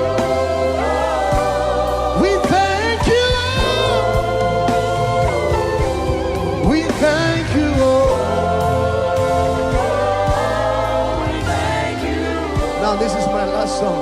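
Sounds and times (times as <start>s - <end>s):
gospel worship music: 0.0s - 14.0s.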